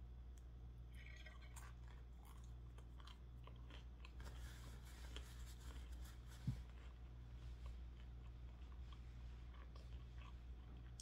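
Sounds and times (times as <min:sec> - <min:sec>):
mouth chewing: 0:00.9 - 0:06.0, 0:06.6 - 0:11.0.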